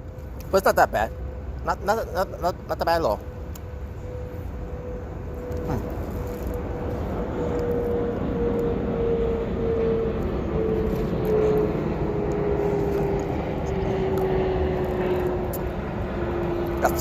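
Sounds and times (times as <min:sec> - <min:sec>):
steady engine noise: 0:00.0 - 0:17.0.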